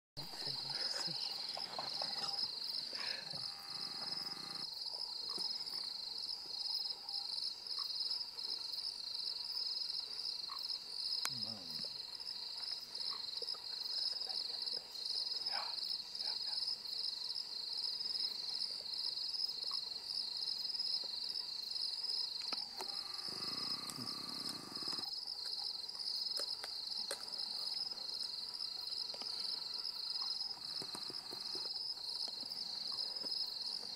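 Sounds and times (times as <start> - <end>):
crickets trilling: 0.2 - 33.9.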